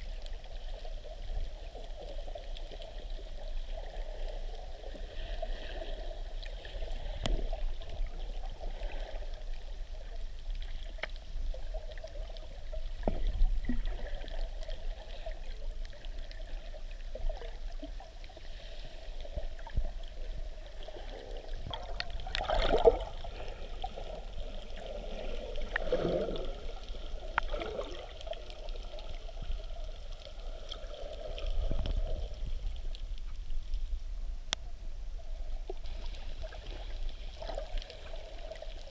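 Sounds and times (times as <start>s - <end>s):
bubbly water swirl: 0.0s - 33.7s, 35.2s - 38.9s
muffled underwater sloshing: 0.0s - 38.9s.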